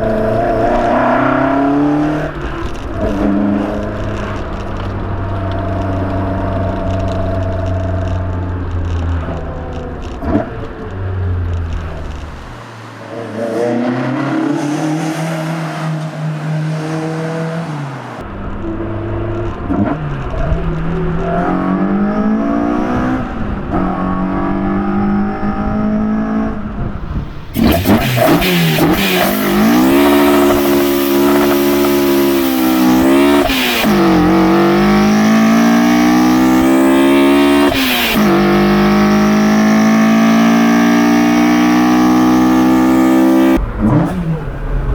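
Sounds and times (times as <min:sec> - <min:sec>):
car engine accelerating and shifting: 0:00.0 - 0:44.9.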